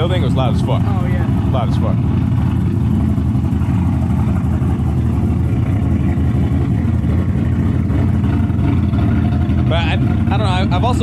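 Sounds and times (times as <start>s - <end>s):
car engine running loud exhaust: 0.0s - 11.0s.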